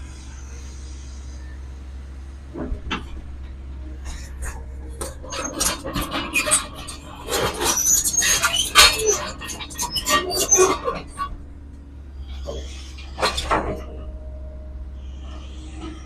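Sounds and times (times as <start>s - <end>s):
diesel engine humming: 0.0s - 16.0s
metallic clanks and rattles: 2.5s - 16.0s.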